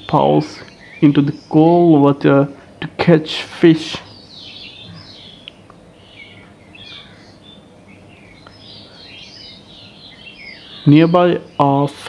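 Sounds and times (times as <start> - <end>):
faint background noise: 0.0 - 12.0
small birds chirping: 0.0 - 12.0.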